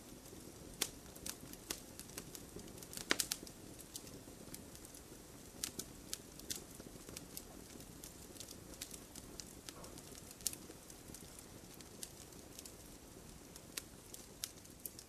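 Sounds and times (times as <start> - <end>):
firewood crackling and popping: 0.0 - 15.0
rumble of flames: 0.0 - 15.0.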